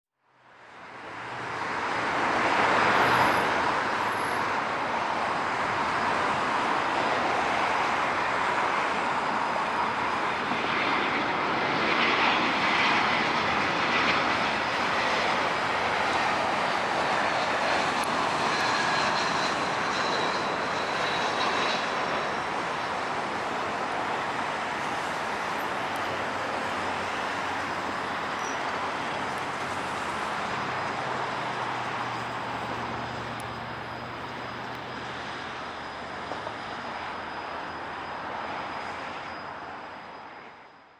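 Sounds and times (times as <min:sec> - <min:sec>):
jet engines landing: 0:00.6 - 0:40.9.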